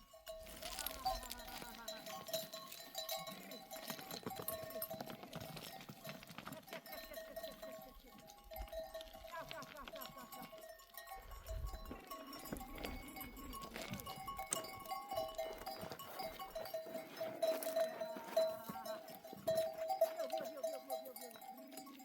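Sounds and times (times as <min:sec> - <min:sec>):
neck bells ringing: 0:00.0 - 0:22.0
sheep and goats bleating: 0:00.2 - 0:22.0.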